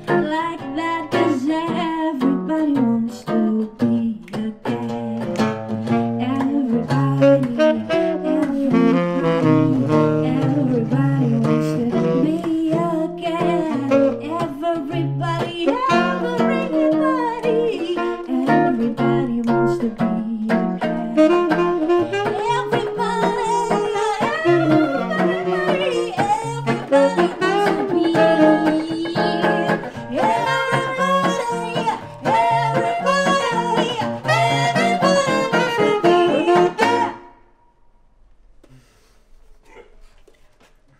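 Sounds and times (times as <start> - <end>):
woman singing: 0.0 - 37.3
acoustic guitar chords: 0.0 - 37.5
tenor saxophone: 4.6 - 37.6.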